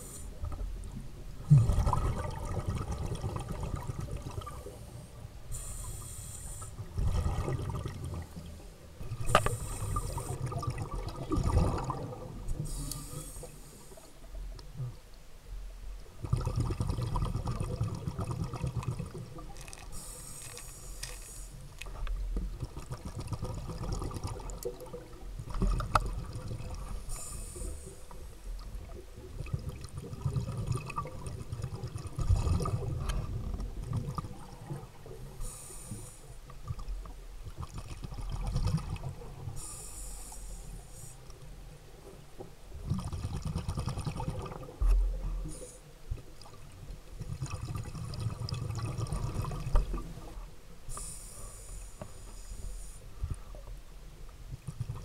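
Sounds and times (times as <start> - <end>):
regulator bubbles hissing underwater: 0.0 - 0.7, 1.4 - 14.4, 16.2 - 22.0, 22.6 - 36.9, 37.5 - 41.7, 42.8 - 46.1, 47.2 - 53.6
low rumble of moving water: 0.0 - 55.0.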